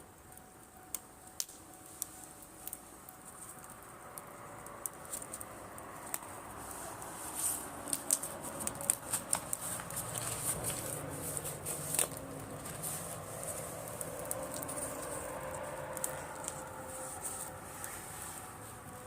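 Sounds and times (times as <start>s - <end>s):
bonfire crackling and popping: 0.0s - 19.0s
fire hissing: 0.0s - 19.0s.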